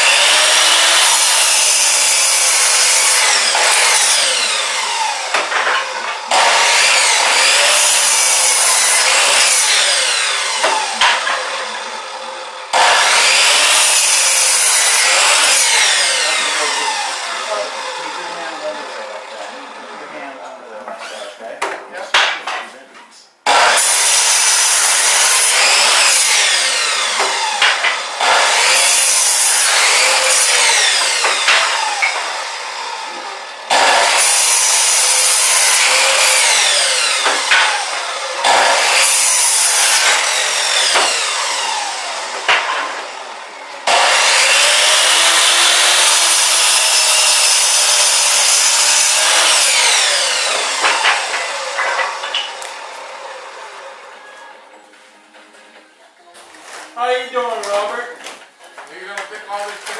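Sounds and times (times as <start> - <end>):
chop saw cutting wood: 0.0 - 20.0, 20.9 - 22.4, 23.5 - 53.6, 59.2 - 59.9.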